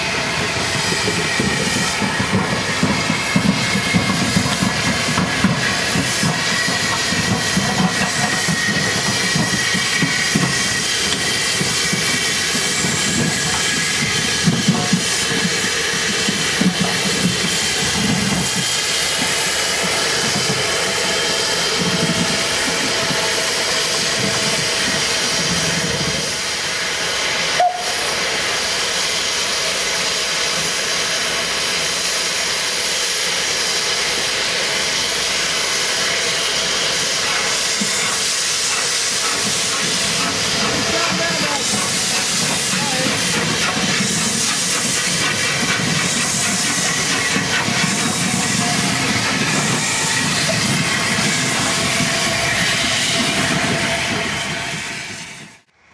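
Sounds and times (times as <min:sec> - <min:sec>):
steam hissing loudly: 0:00.0 - 0:55.7.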